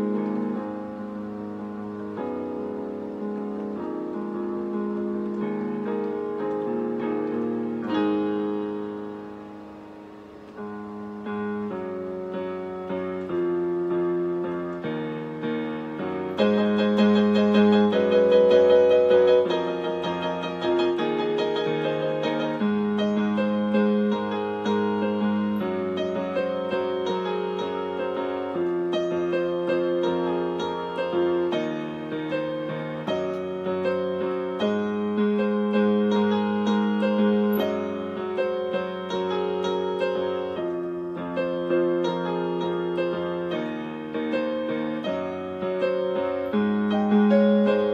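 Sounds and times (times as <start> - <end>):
keyboard playing piano chords: 0.0 - 47.9.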